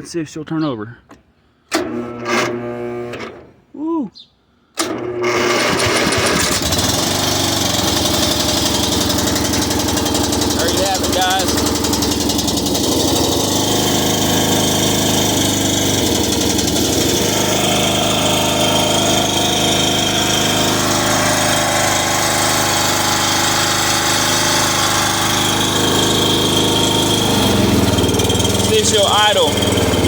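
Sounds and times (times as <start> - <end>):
lawn mower engine running: 1.7 - 3.5, 4.8 - 30.0.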